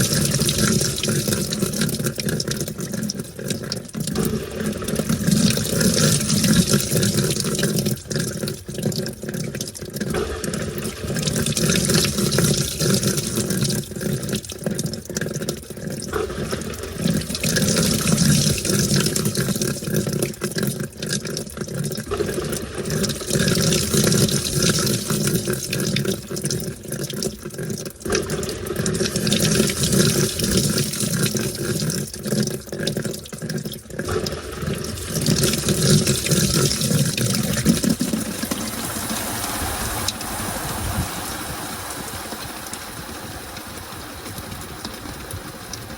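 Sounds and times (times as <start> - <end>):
washing machine water sloshing: 0.0 - 45.9.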